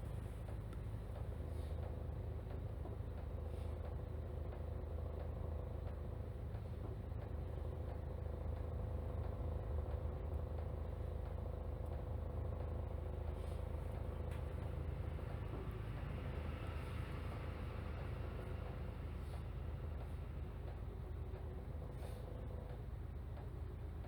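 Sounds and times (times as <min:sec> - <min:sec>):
bus engine and road rumble: 0:00.0 - 0:24.0
constant hum: 0:00.0 - 0:24.0.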